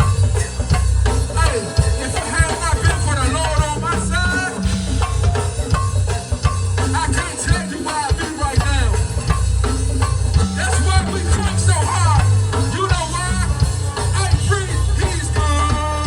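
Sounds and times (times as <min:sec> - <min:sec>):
shaker-like hand percussion: 0:00.0 - 0:15.6
drum kit: 0:00.0 - 0:16.0
heavy bass line: 0:00.0 - 0:16.0.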